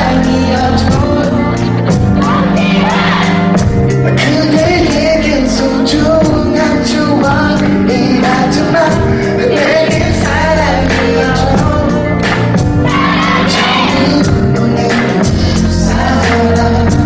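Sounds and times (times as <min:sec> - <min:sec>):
steady drum beat: 0:00.0 - 0:07.6, 0:09.8 - 0:17.0
pop song vocals: 0:00.0 - 0:17.0.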